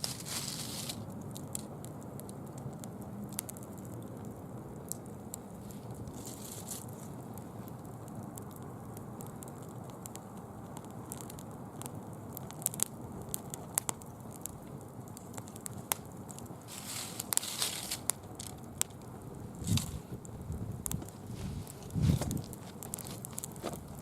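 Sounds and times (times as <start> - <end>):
bonfire crackling and popping: 0.0 - 24.0
fire low hiss: 0.0 - 24.0.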